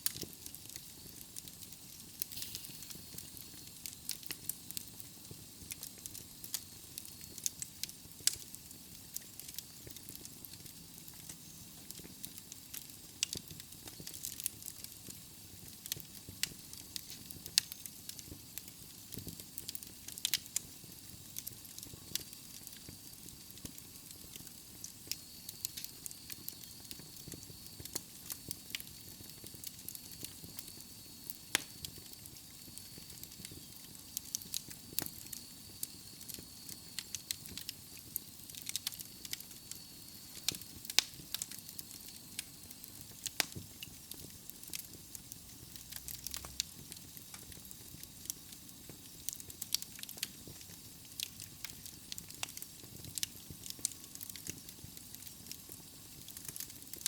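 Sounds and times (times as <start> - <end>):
burning logs crackling and popping: 0.0 - 57.0
soft fire hiss: 0.0 - 57.0.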